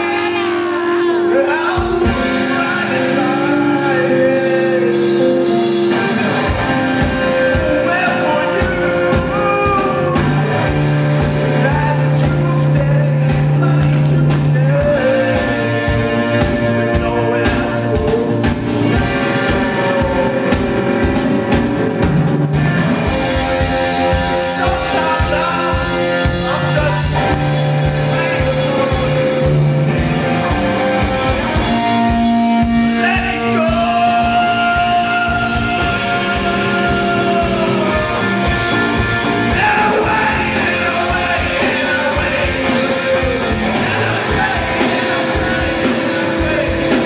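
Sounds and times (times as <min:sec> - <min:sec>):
man singing: 0:00.0 - 0:21.2, 0:23.2 - 0:29.9, 0:32.1 - 0:47.0
bass guitar: 0:00.0 - 0:47.0
electric guitar: 0:00.0 - 0:47.0
steady drum beat: 0:00.0 - 0:47.0.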